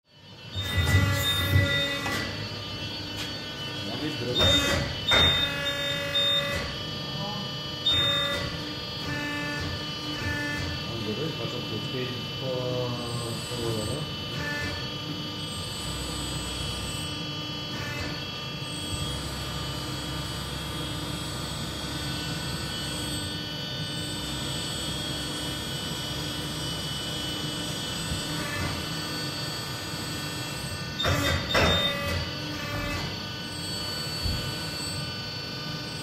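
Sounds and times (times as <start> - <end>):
motor humming with slow pulse: 0.1 - 36.0.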